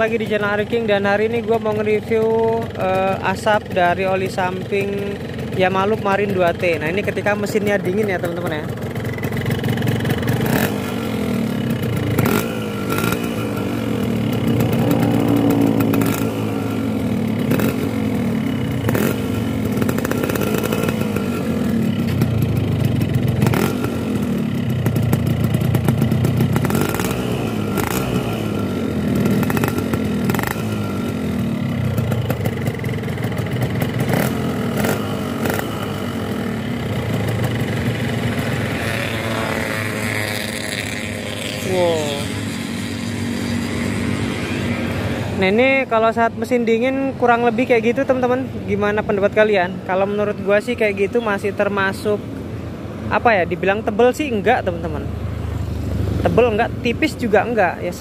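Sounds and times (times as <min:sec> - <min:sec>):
two-stroke motorcycle engine idling: 0:00.0 - 0:44.2, 0:45.4 - 0:58.0.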